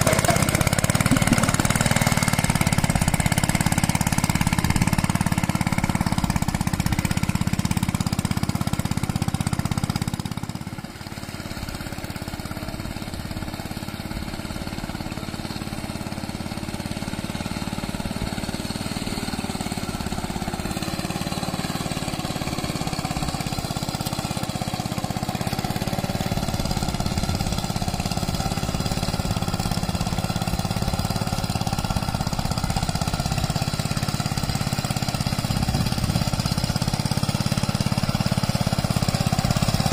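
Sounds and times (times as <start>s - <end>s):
hand tractor diesel engine running: 0.0s - 39.9s.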